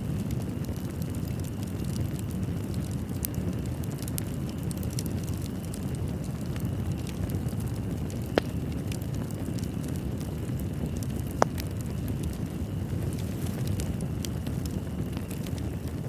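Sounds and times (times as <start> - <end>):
sharp fire pops: 0.0 - 16.0
wood fire crackling: 0.0 - 16.0.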